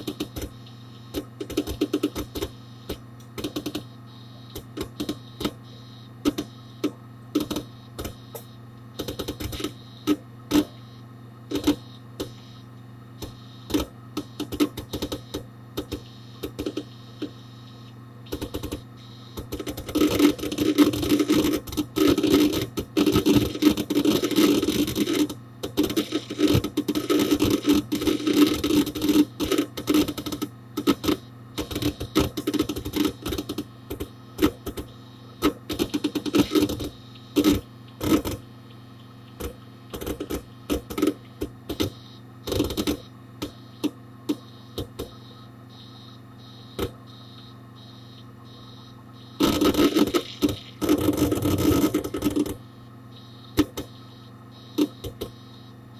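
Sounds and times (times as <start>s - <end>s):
hard disk clicking and rattling: 0.0s - 10.9s, 11.5s - 12.5s, 13.2s - 17.4s, 18.2s - 45.5s, 49.4s - 52.7s
steady computer hum: 0.0s - 55.9s.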